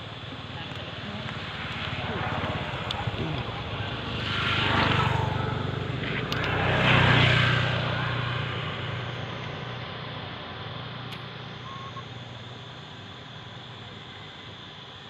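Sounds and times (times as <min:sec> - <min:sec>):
motor engine humming: 0:00.0 - 0:15.0.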